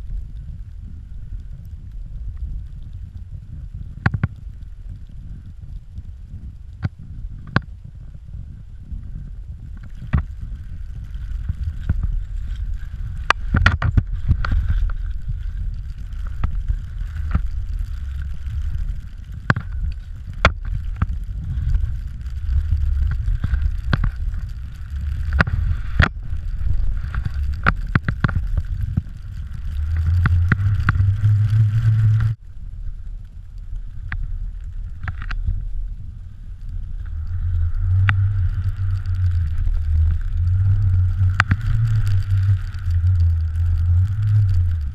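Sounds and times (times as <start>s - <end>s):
wind rushing over microphone: 0.0s - 44.9s
clicks and knocks from skis: 2.3s - 7.8s, 8.8s - 32.4s, 33.7s - 36.0s, 36.9s - 44.9s.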